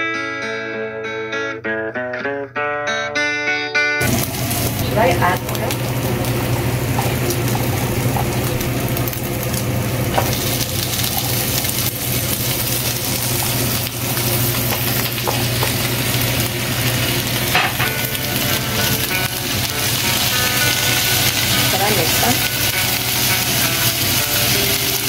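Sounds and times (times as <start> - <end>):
meat sizzling in a frying pan: 4.0 - 25.0.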